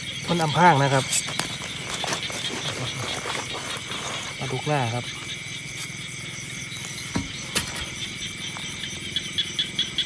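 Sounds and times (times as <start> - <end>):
insects and frogs chorus: 0.0 - 10.0.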